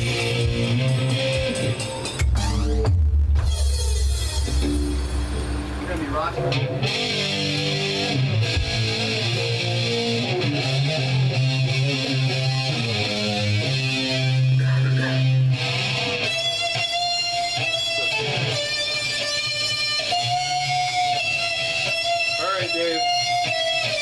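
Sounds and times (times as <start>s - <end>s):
amplified electric guitar: 0.0s - 24.0s.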